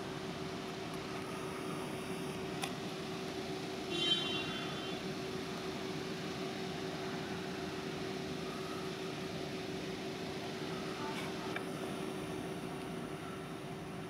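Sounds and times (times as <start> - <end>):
faint constant tone: 0.0 - 14.0.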